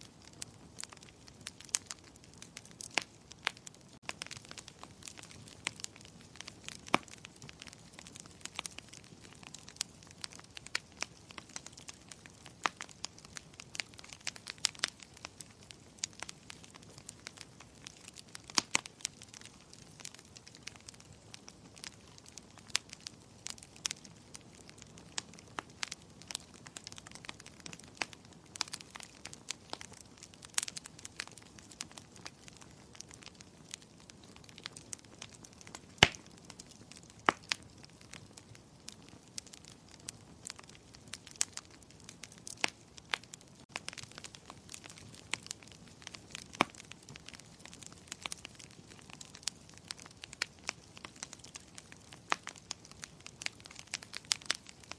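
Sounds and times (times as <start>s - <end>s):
wood fire crackling: 0.0s - 54.9s
loud fire pops: 0.2s - 54.9s.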